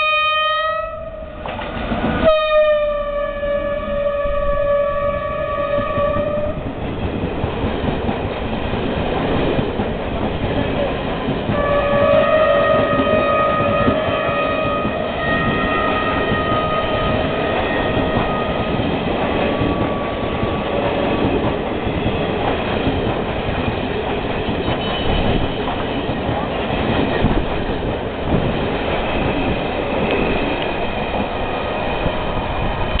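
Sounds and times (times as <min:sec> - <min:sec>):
train wheels on rails: 0:01.1 - 0:33.0.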